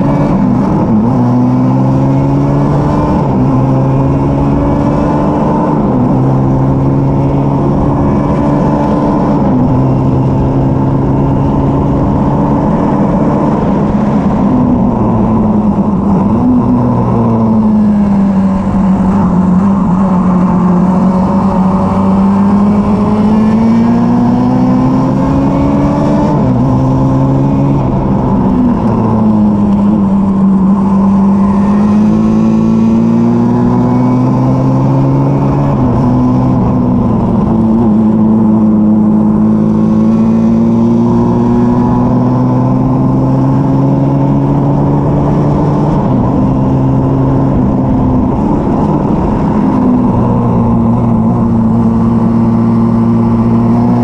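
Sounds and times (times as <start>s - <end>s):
race car engine accelerating: 0.0s - 54.0s
wind and road noise: 0.0s - 54.0s.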